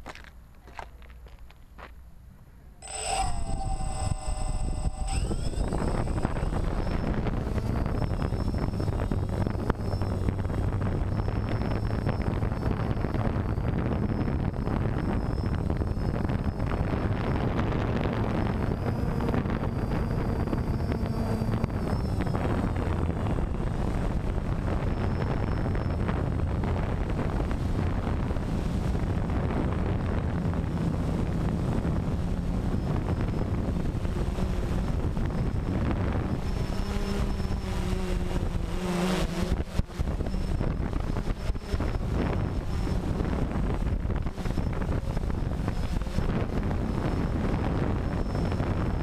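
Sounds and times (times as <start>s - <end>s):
drone propellers buzzing: 2.8s - 49.0s
wind noise on microphone: 2.8s - 49.0s.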